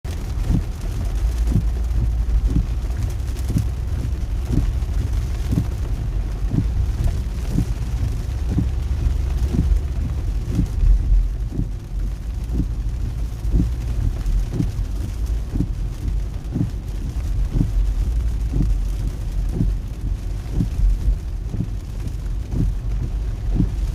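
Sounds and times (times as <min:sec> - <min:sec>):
road and tyre rumble: 0:00.0 - 0:23.9
rain hiss: 0:00.1 - 0:23.9.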